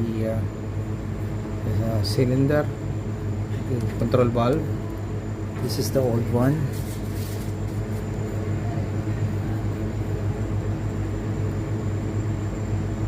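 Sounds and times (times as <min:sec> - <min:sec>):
machine hum with whine: 0:00.0 - 0:13.0.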